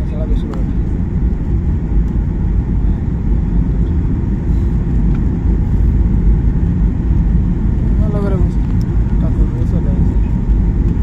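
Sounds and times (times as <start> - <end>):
low rumble of jet engines: 0.0 - 11.0.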